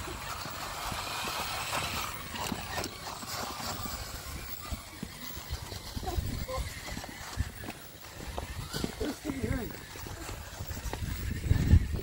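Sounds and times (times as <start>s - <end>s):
rc car drivetrain noise: 0.0s - 12.0s.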